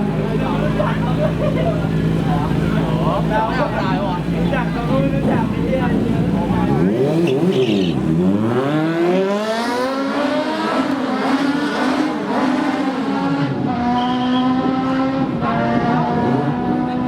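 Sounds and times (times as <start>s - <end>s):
motorbike engine revving hard: 0.0s - 17.0s.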